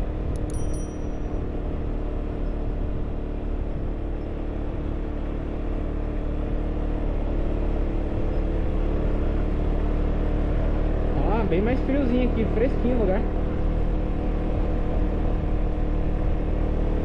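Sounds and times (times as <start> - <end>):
car engine hum: 0.0 - 17.0
low road rumble: 0.0 - 17.0.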